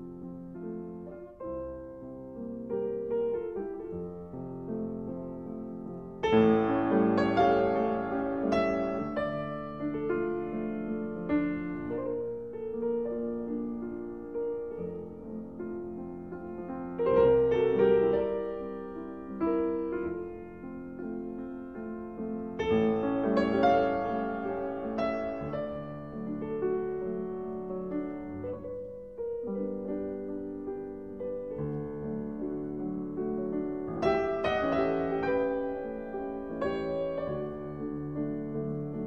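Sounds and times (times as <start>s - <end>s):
slow piano music: 0.0s - 39.0s.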